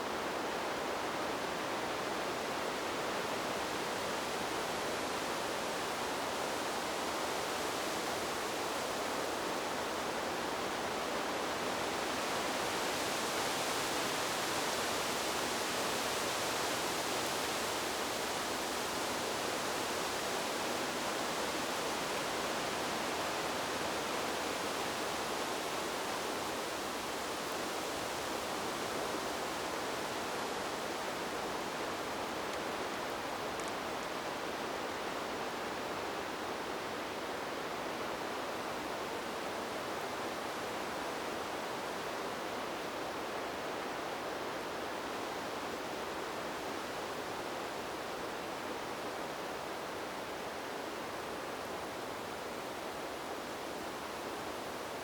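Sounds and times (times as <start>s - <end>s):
wind blowing through trees: 0.0s - 55.0s.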